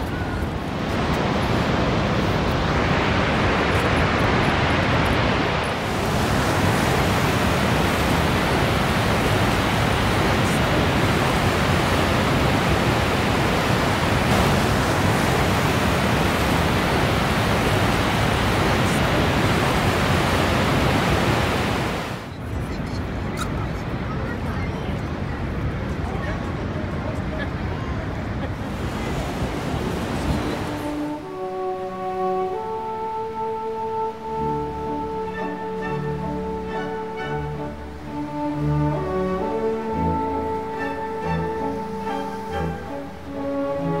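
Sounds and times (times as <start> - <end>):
waterfall rushing: 0.0 - 22.3, 28.5 - 44.0.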